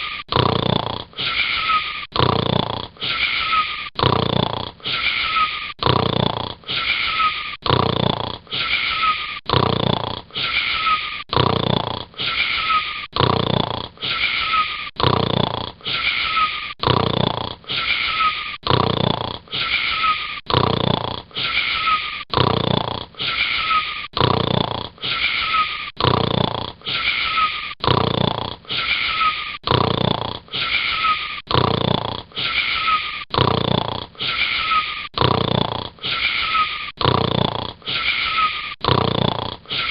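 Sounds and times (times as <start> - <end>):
snoring with falling whistle: 0.0 - 39.9.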